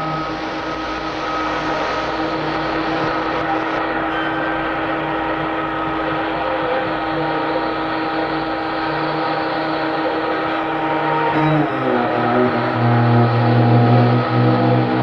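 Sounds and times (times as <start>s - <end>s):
vehicle droning hum: 0.0s - 15.0s.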